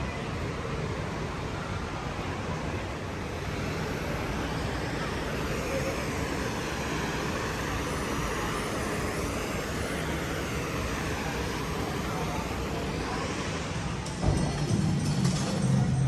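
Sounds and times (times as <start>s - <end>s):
road vehicle rumble and hiss: 0.0s - 16.0s.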